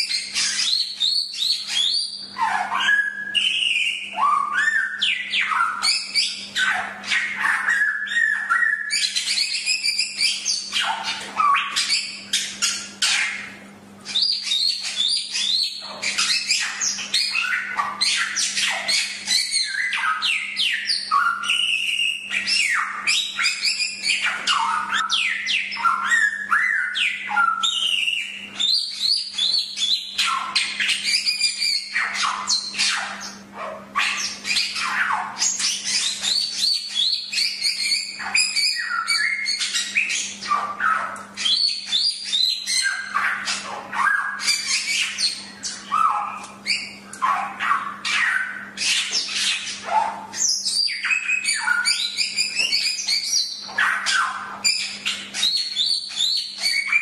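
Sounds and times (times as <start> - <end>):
bird singing whistled notes: 0.0 - 13.4, 14.1 - 33.4, 34.0 - 47.0, 48.0 - 57.0.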